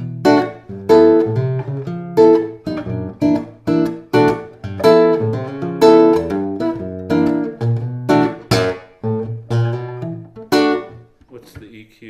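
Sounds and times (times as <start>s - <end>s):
strummed guitar chords: 0.0s - 11.8s.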